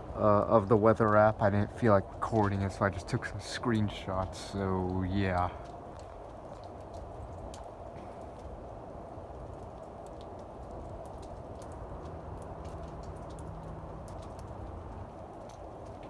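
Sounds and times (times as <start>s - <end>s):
faint steady hum: 0.0s - 16.0s
low outdoor rumble: 0.0s - 16.0s
light ticks: 1.0s - 8.6s, 9.3s - 16.0s.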